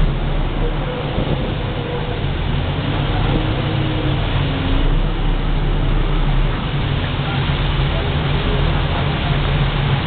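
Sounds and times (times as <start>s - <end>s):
motorboat engine droning: 0.0s - 10.0s
water splashing along hull: 0.0s - 10.0s.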